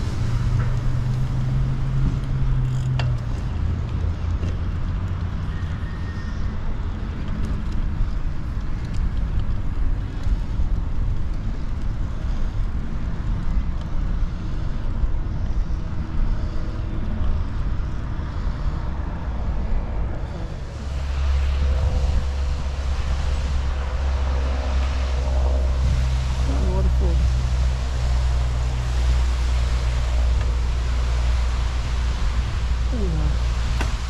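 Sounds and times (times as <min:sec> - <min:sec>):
wind buffeting microphone: 0:06.6 - 0:34.0.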